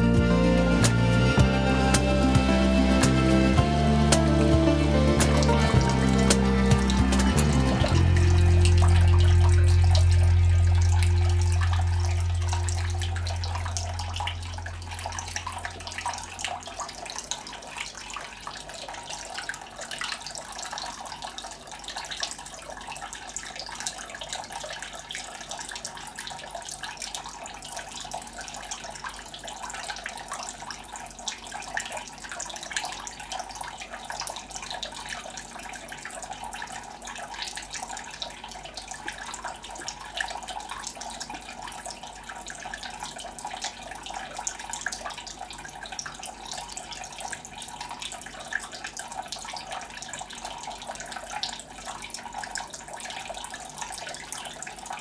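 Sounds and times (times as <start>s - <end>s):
fountain water trickling and splashing: 0.0s - 55.0s.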